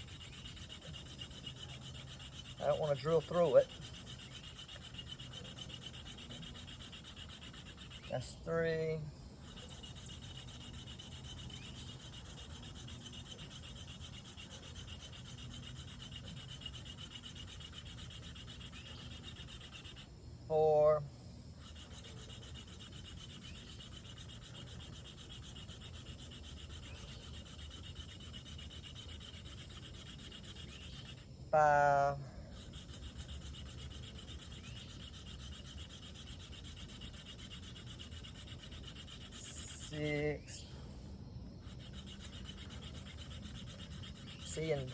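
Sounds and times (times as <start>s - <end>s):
wooden spindle rubbing: 0.0s - 40.7s, 41.5s - 44.9s.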